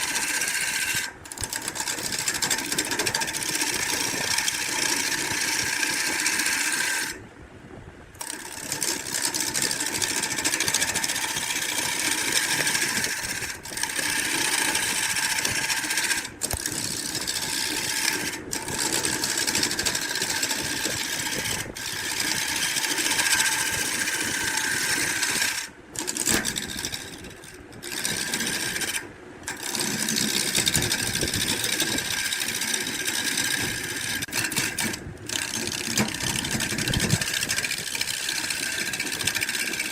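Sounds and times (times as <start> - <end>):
woodworking power tool buzzing: 0.0 - 7.2, 8.2 - 39.9.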